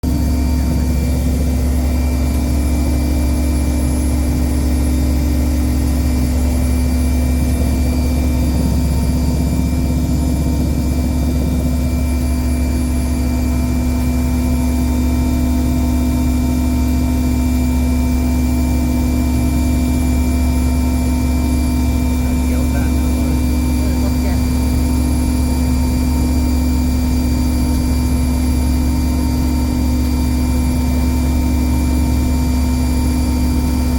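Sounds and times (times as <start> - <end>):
diesel machinery droning: 0.0 - 33.9.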